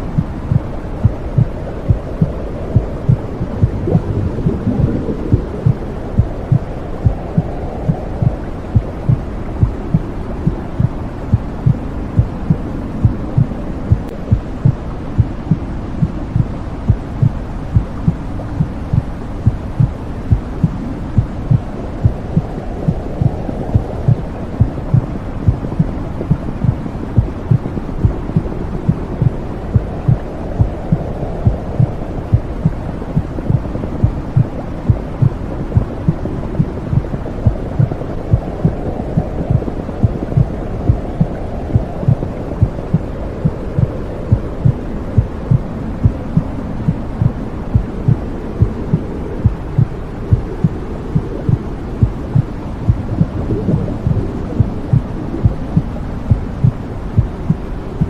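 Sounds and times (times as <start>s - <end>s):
muffled rushing noise: 0.0s - 58.0s
heartbeat thumping: 0.1s - 57.7s.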